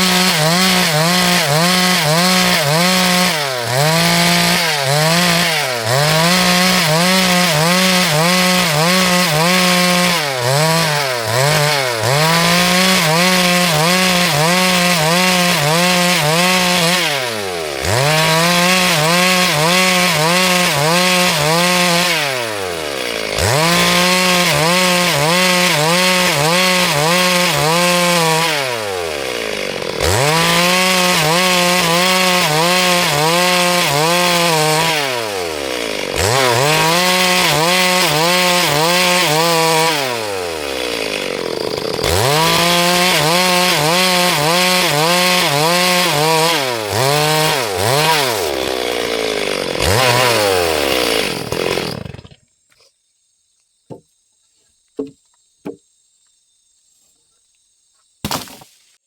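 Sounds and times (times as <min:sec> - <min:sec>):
chainsaw cutting wood: 0:00.0 - 0:52.9, 0:53.9 - 0:54.1, 0:55.0 - 0:55.8, 0:58.2 - 0:59.0.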